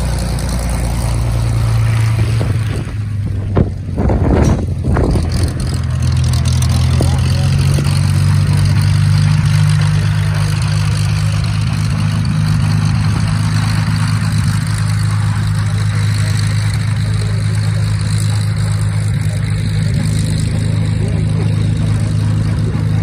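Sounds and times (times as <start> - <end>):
aircraft engine running low power: 0.0 - 23.0.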